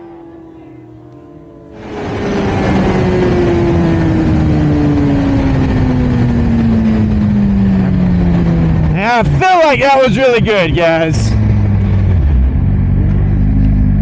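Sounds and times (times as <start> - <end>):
motorcycle engine slowing down: 0.0 - 14.0.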